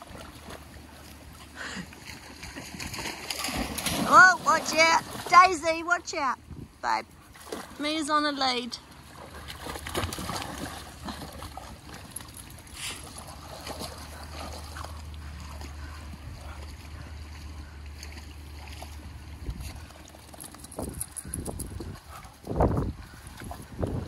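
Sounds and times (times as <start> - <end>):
creek water running: 0.0 - 24.0
water splashes: 0.0 - 24.0.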